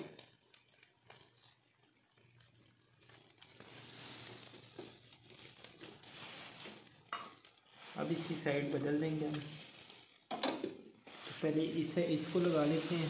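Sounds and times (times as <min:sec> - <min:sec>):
fish sizzling on a grill: 0:00.0 - 0:13.0.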